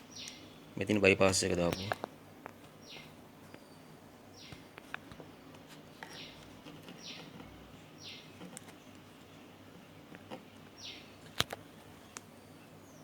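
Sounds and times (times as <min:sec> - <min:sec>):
bird calling: 0:00.0 - 0:00.9, 0:02.7 - 0:13.0.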